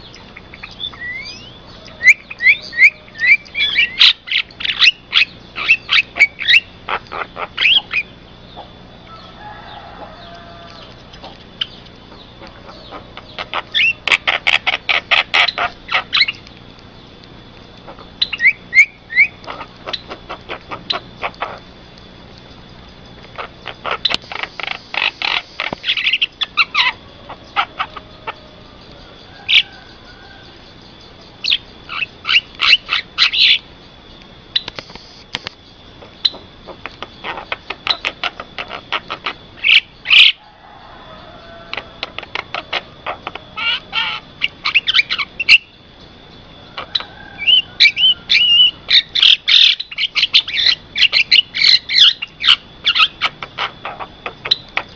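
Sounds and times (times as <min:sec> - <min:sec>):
myna chirping and clicking: 0:00.0 - 0:54.9.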